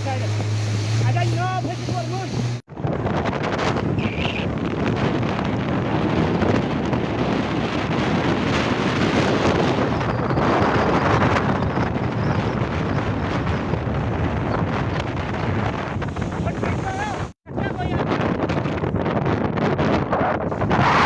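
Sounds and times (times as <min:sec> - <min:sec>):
gusty wind buffeting microphone: 0:00.0 - 0:21.0.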